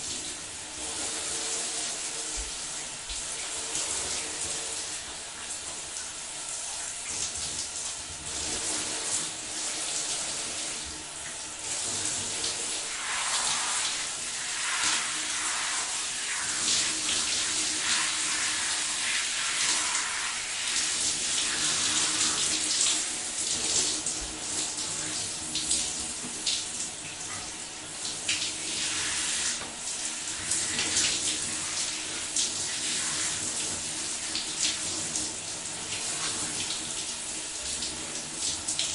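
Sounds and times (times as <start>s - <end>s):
shower water spraying: 0.0s - 38.9s.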